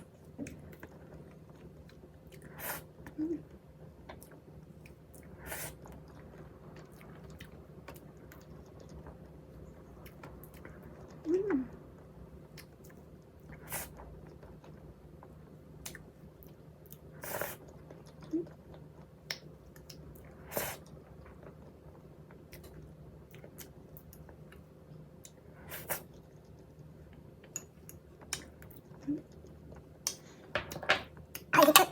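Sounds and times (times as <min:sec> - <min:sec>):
soft chewing: 0:00.0 - 0:11.7, 0:12.4 - 0:31.9.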